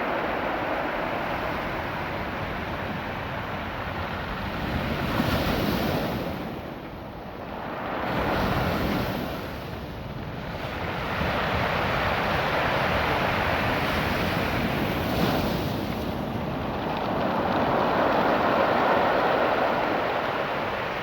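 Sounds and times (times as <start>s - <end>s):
surf washing over a beach: 0.0s - 21.0s.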